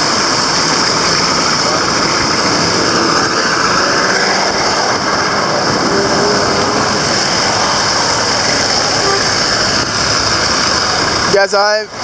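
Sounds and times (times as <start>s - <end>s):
tyres hissing on road: 0.0s - 12.0s
vehicle engines running: 0.0s - 12.0s.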